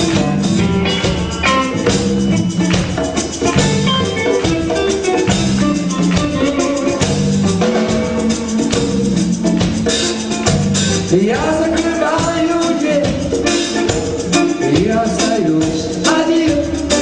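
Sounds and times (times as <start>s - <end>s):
bass: 0.0s - 17.0s
drum kit beat: 0.0s - 17.0s
electric guitar: 0.0s - 17.0s.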